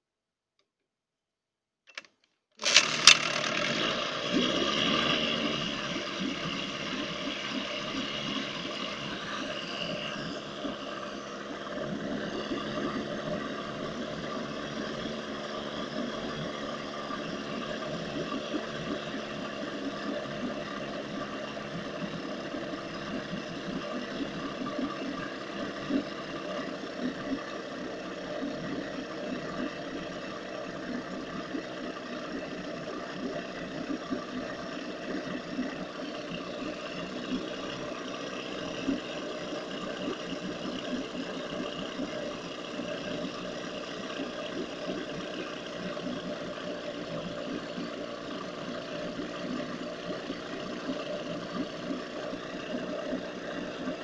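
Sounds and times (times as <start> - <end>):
outboard motor running: 2.6 - 54.0.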